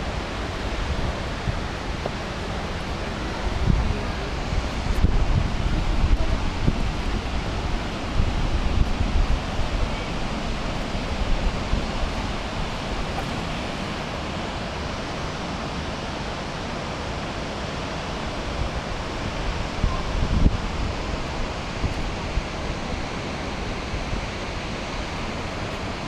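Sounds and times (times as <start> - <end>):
wind buffeting microphone: 0.0 - 15.7, 18.5 - 26.0
waterfall rushing: 0.0 - 26.0.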